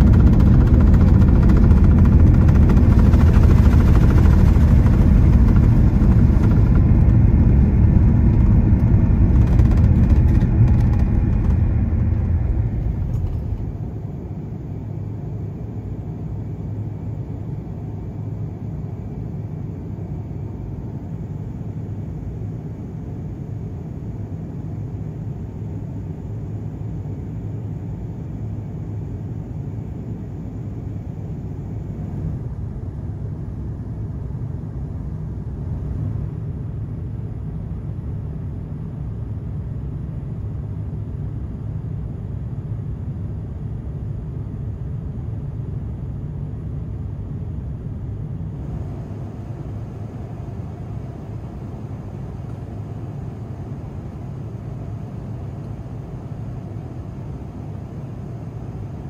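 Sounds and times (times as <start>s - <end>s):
airplane cabin drone: 0.0s - 59.0s
airplane cabin rumble on runway: 0.0s - 59.0s.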